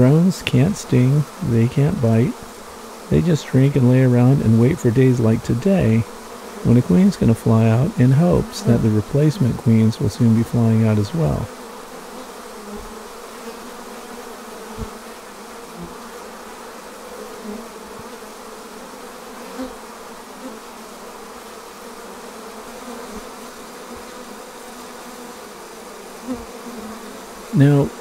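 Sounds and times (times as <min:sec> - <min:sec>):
honeybee colony humming: 0:00.0 - 0:28.0
louder bee buzzes: 0:00.0 - 0:28.0.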